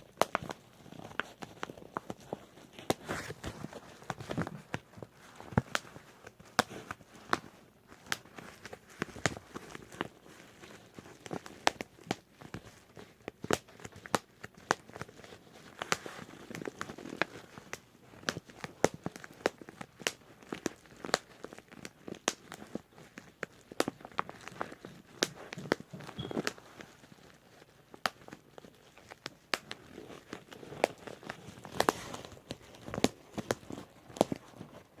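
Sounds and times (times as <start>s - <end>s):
bubble wrap popping: 0.0s - 35.0s
plastic sheet crinkling: 0.0s - 35.0s.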